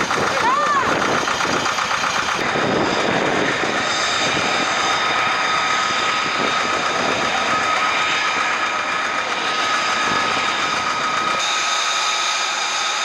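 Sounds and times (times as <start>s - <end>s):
aircraft engine running: 0.0s - 13.0s.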